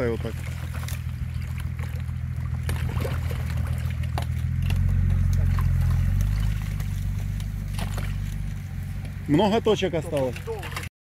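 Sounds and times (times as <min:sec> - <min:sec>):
vehicle engine idling: 0:00.0 - 0:10.9
shovel digging in icy water: 0:00.1 - 0:08.5, 0:10.0 - 0:10.9.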